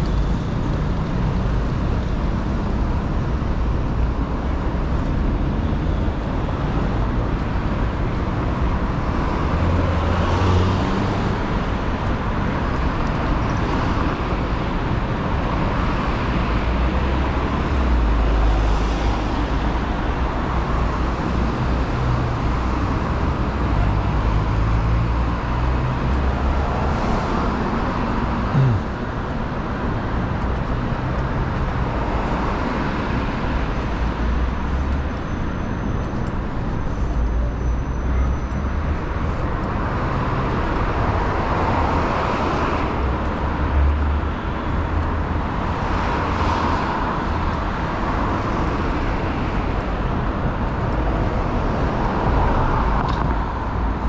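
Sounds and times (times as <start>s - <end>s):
traffic rumble: 0.0s - 54.0s
vehicles passing: 0.0s - 54.0s.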